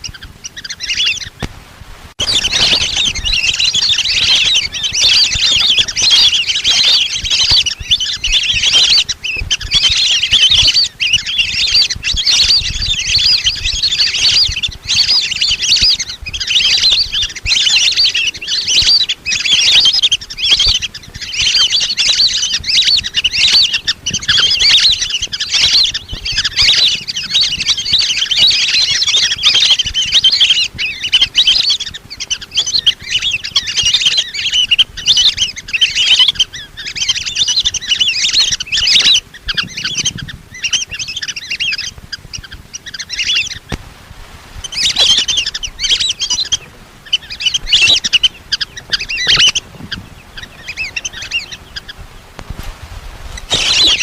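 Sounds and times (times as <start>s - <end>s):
ducks whistling calls: 0.0s - 1.5s, 2.2s - 43.9s, 44.5s - 54.0s.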